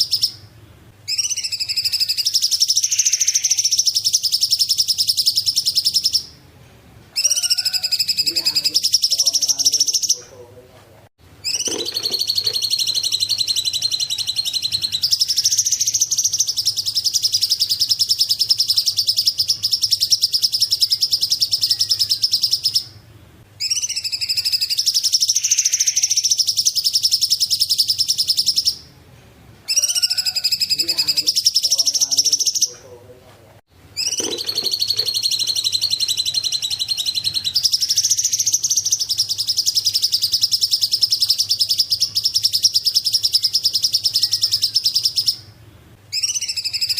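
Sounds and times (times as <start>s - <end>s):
bird singing rapid trills: 0.0s - 0.5s, 1.1s - 6.4s, 7.2s - 10.3s, 11.4s - 23.0s, 23.6s - 28.9s, 29.7s - 32.8s, 34.0s - 46.9s.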